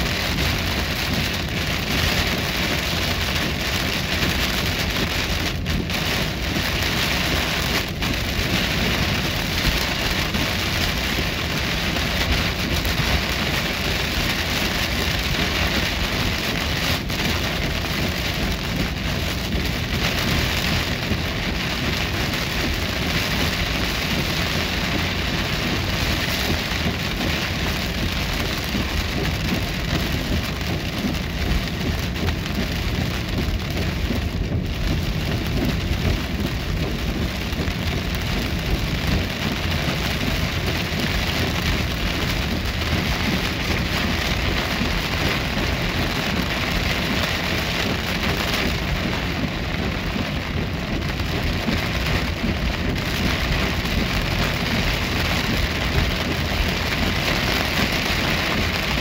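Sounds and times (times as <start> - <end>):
car rumbling on wet road: 0.0 - 59.0
heavy rain on car windshield: 0.0 - 59.0.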